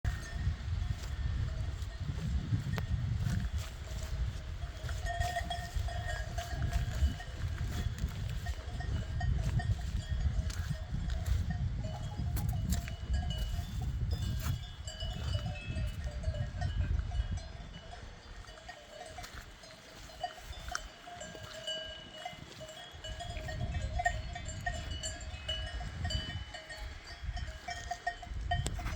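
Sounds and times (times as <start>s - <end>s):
cowbells clanking: 0.1s - 28.9s.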